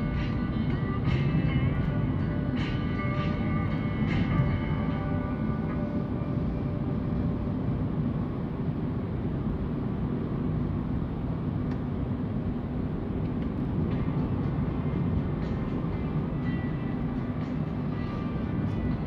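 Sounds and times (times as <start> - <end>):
tyres and engine rumble: 0.0 - 19.0.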